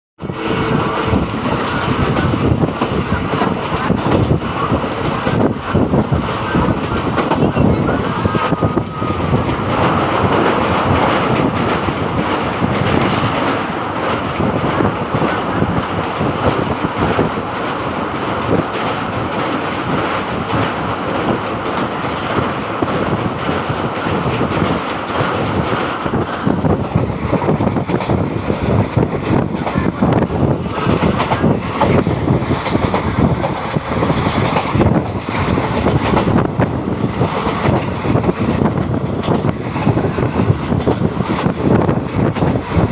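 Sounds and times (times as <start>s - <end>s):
train wheels rumbling on rails: 0.2s - 42.9s
wheels clattering over rail joints: 0.3s - 42.9s.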